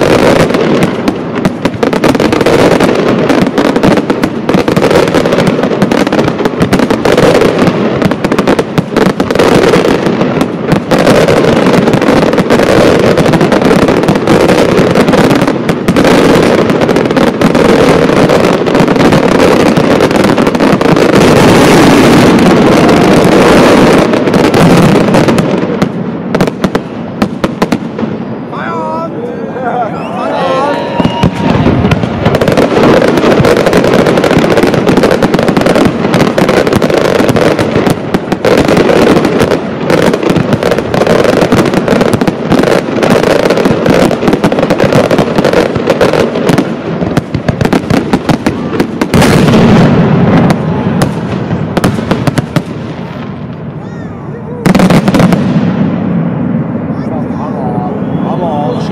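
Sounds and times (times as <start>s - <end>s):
fireworks bursting and crackling: 0.0s - 58.9s.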